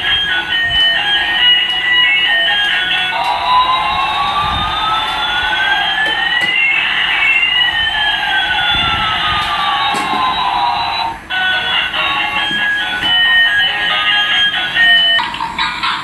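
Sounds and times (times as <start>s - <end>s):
electronic gliding siren tones: 0.0s - 15.3s.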